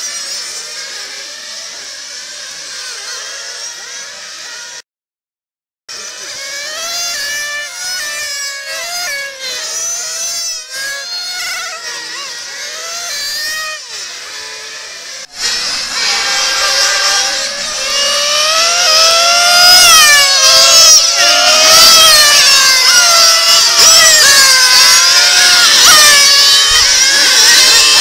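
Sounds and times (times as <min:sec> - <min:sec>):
model car engines whining: 0:00.0 - 0:04.8, 0:05.9 - 0:28.0.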